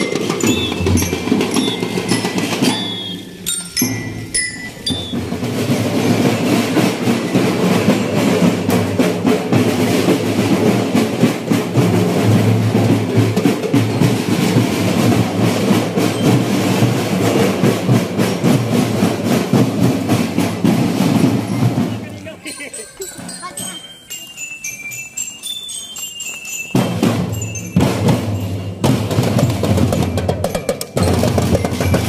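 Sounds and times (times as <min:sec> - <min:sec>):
marching drums and percussion: 0:00.0 - 0:32.0.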